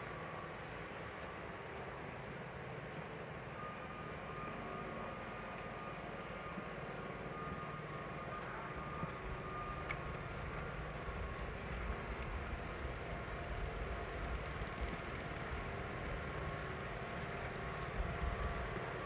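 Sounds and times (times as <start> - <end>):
hum of vehicles: 0.0 - 19.0
low engine rumble: 0.0 - 19.0
thin steady whine: 0.0 - 19.0.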